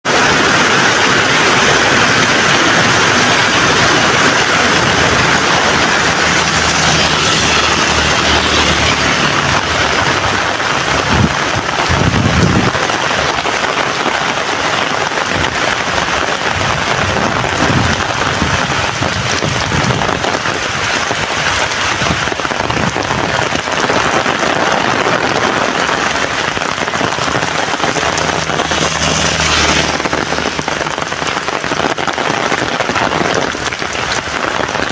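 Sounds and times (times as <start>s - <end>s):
heavy rain falling: 0.0s - 34.9s
low rumbles: 0.1s - 32.6s.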